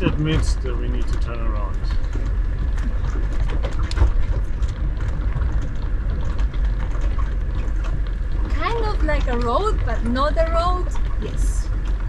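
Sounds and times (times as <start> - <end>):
knocks and rattles: 0.0 - 12.0
vehicle engine rumble: 0.0 - 12.0.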